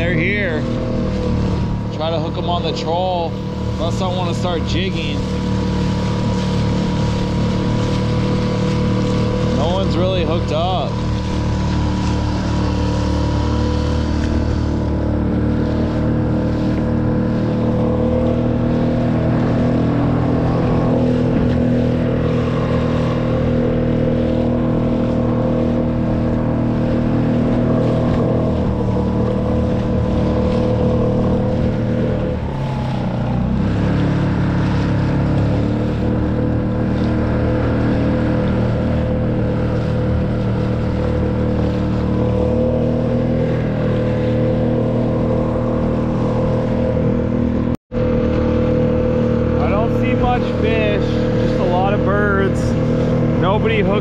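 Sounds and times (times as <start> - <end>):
outboard motor running: 0.0 - 54.0
water splashing off hull: 0.0 - 54.0.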